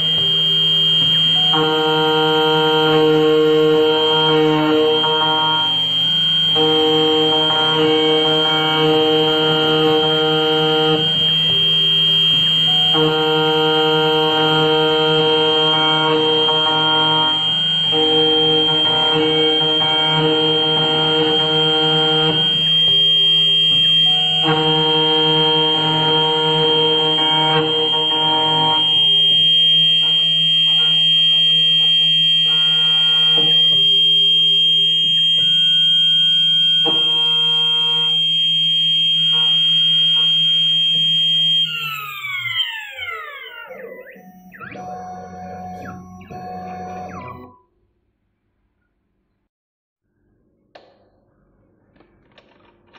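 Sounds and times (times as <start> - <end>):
key cutting machine whining: 0.0 - 47.5.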